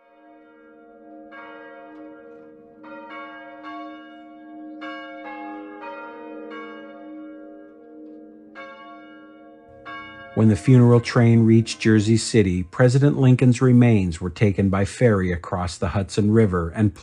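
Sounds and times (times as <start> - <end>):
church bells ringing: 0.0 - 14.8.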